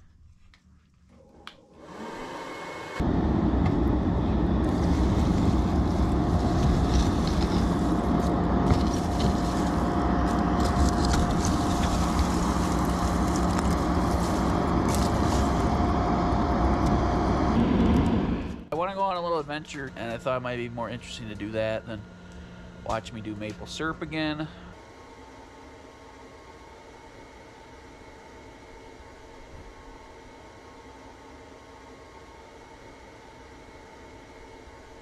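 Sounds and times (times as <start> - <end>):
thin steady whine: 0.0 - 35.0
wood fire roaring: 0.6 - 32.5.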